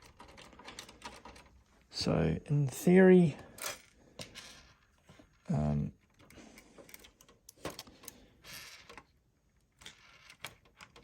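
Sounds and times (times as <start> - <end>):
clicks and rustles of handling toy: 0.0 - 1.8, 3.5 - 11.0.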